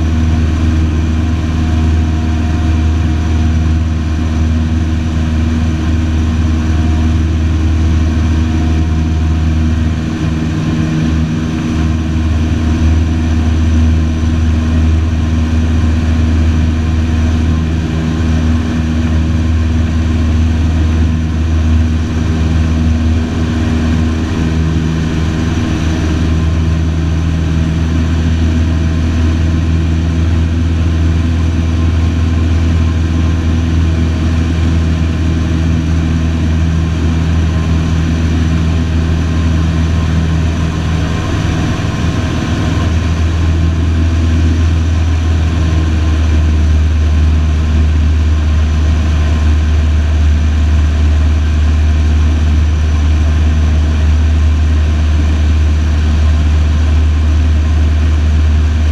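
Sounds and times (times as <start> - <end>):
aircraft engine and propeller hum: 0.0 - 58.9.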